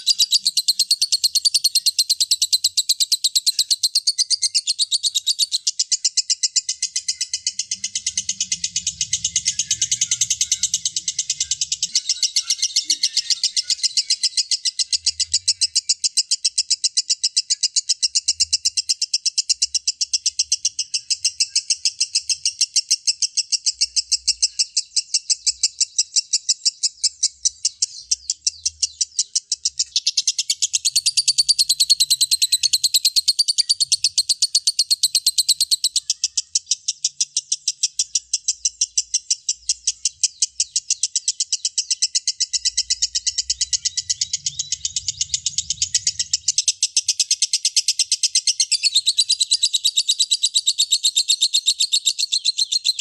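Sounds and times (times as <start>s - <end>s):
lovebird chattering trill: 0.0s - 53.0s.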